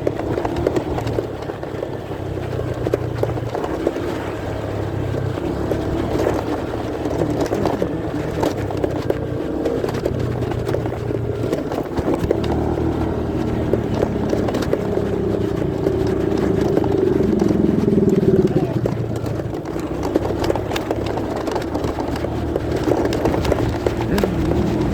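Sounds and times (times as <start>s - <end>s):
muffled motorcycle engine hum: 0.0s - 24.9s
road noise: 0.0s - 24.9s.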